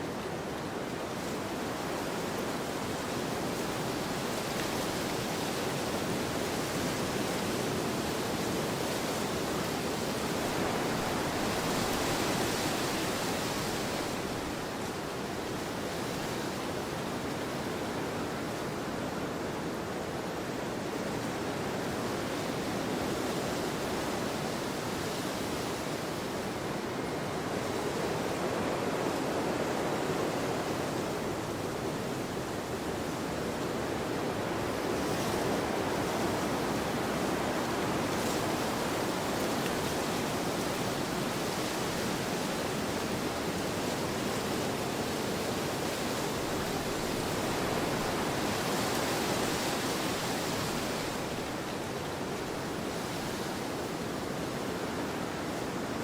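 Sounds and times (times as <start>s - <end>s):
wind blowing across a field: 0.0s - 56.0s.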